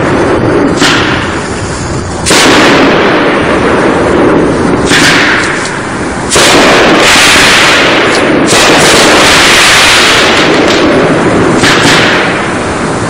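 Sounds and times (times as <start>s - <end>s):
firework crackle: 0.0s - 13.0s
firework explosions: 0.0s - 13.0s.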